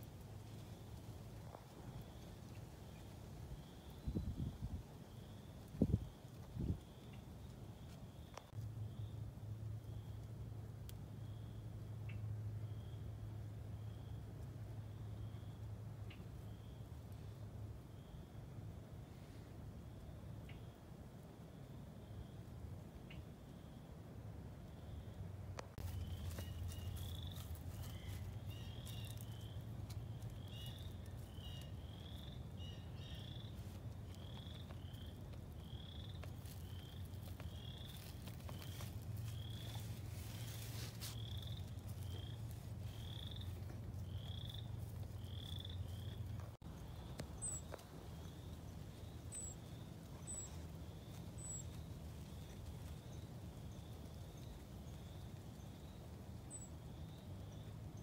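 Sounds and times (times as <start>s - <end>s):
low steady rumble: 8.4s - 58.0s.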